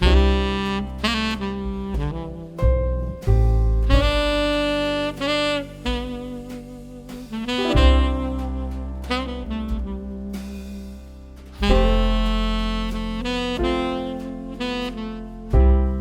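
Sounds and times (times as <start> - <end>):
jazz saxophone over bass: 0.0 - 16.0.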